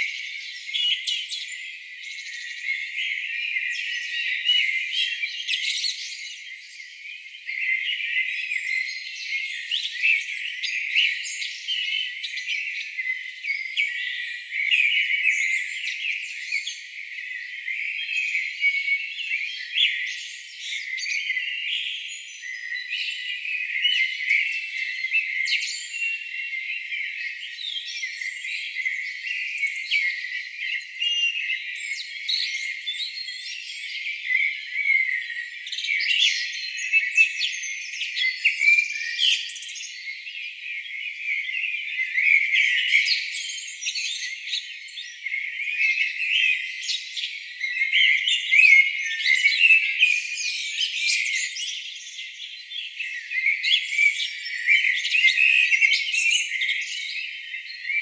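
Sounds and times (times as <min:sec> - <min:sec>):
songbirds chorus singing: 0:00.0 - 0:58.0.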